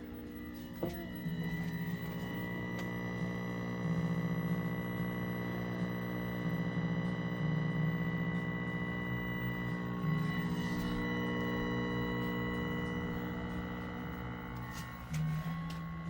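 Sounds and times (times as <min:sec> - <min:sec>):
television buzzing: 0:00.0 - 0:16.0.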